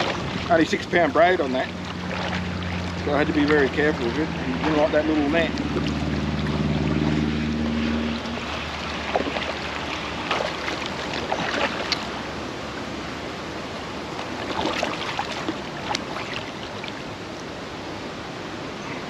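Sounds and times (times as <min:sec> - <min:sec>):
paddle splashing water: 0:00.0 - 0:17.7
moving water wash: 0:00.0 - 0:19.0.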